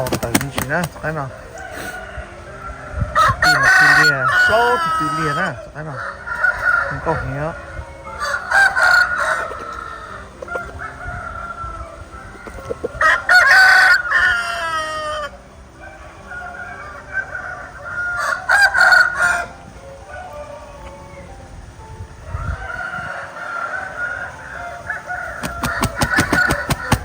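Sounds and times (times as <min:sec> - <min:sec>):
rooster crowing: 0:00.0 - 0:21.4, 0:22.2 - 0:27.0
chicken calls: 0:00.0 - 0:27.0.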